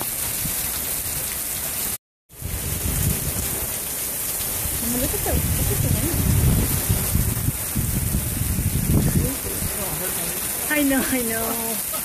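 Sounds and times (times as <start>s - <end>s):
heavy rain on pavement and cars: 0.0s - 12.0s.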